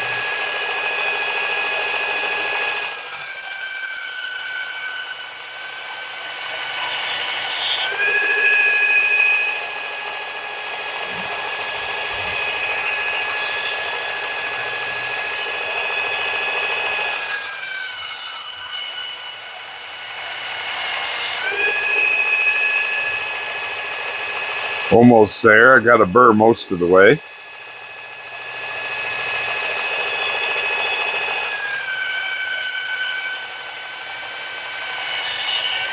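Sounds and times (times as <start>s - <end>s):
belt sharpener motor whine: 0.0s - 24.9s, 27.0s - 35.9s.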